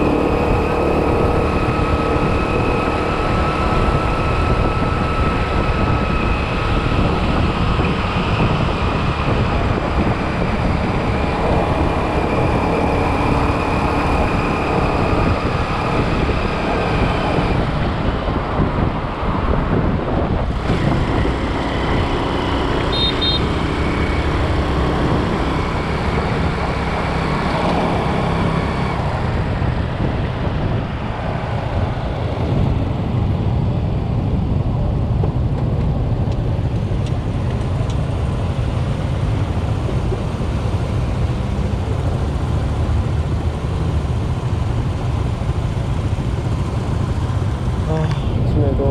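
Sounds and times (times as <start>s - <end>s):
surrounding traffic: 0.0s - 48.9s.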